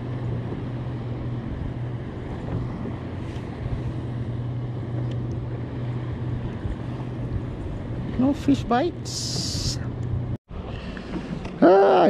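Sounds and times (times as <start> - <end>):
boat engine drone: 0.0 - 12.0
wind buffeting microphone: 0.0 - 12.0.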